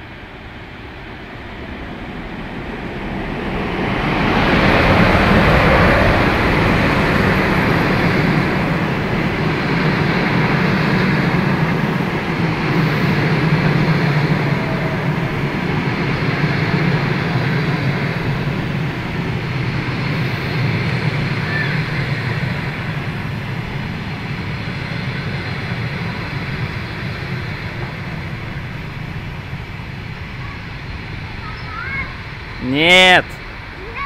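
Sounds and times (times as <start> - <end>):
electric locomotive passing: 0.0 - 34.0
train wheels rumbling on rails: 0.0 - 34.0.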